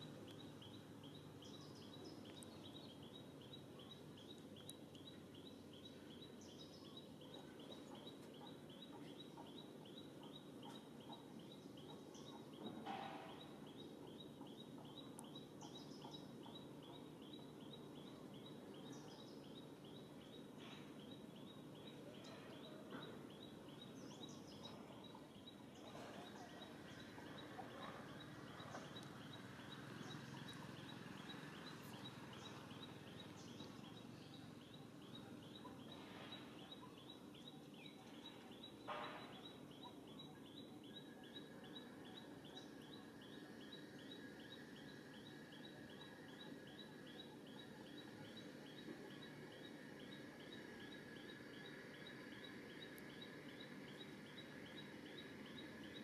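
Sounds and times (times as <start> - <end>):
faint steady tone: 0.0 - 56.0.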